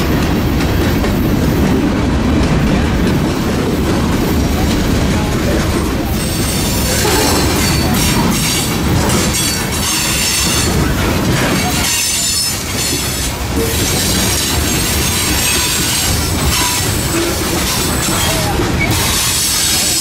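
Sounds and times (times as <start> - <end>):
freight cars rumbling on rails: 0.0 - 20.0.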